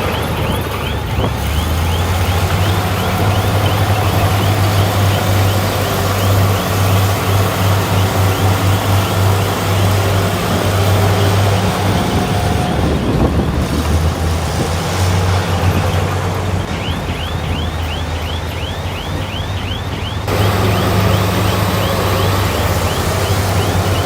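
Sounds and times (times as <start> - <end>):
bulldozer diesel engine running: 0.0 - 24.0
crawler tracks squeaking: 0.0 - 24.0.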